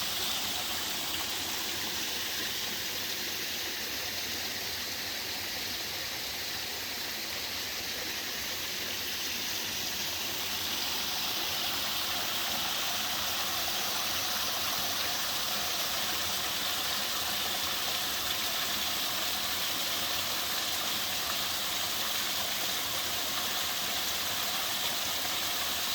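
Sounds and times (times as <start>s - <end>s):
waterfall rushing over rocks: 0.0s - 3.8s, 6.8s - 25.9s.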